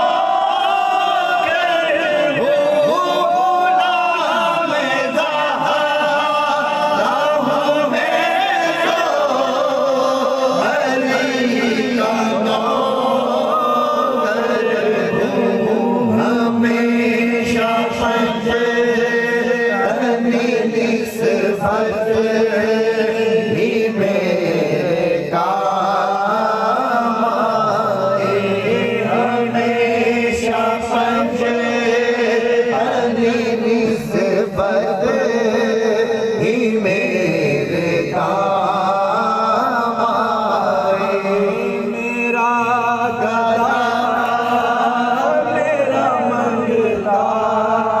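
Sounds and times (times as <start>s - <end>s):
person chanting a melody: 0.0s - 48.0s.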